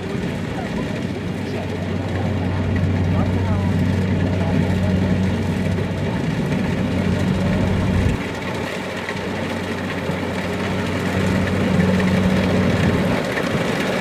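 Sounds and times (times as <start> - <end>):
combine harvester diesel engine: 0.0 - 14.0
low engine hum: 0.0 - 14.0
mechanical wash noise: 0.0 - 14.0.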